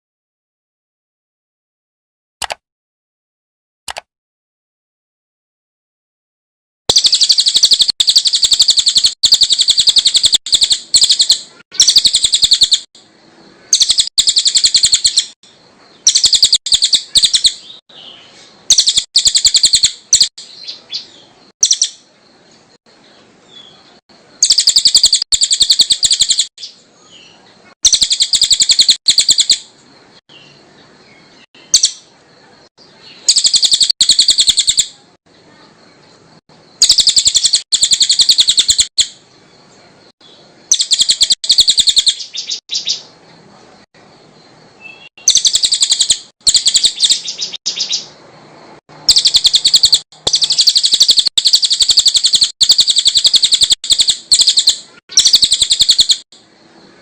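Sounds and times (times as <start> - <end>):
songbird chattering song: 6.9 - 57.0.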